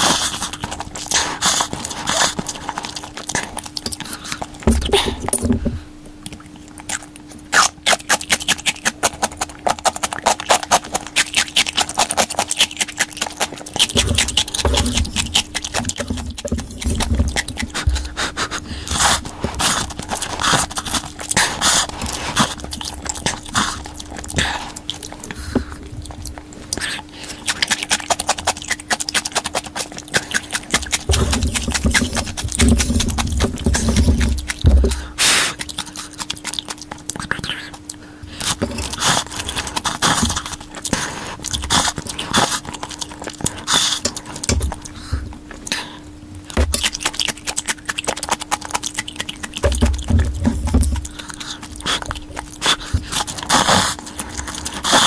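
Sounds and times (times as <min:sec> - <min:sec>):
faint steady hum: 0:00.0 - 0:55.0
person slurping and chewing noodles: 0:00.0 - 0:55.0.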